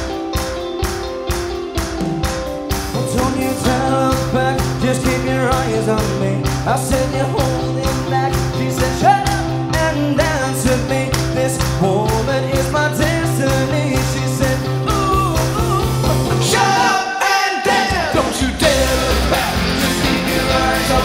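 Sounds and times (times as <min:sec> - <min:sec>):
pop-rock band playing: 0:00.0 - 0:21.0
man singing: 0:02.9 - 0:21.0.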